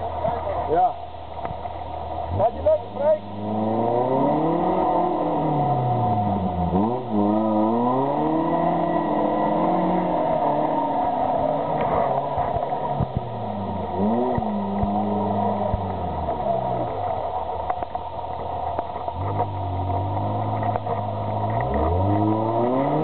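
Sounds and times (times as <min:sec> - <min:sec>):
engine revving: 0:02.2 - 0:23.0.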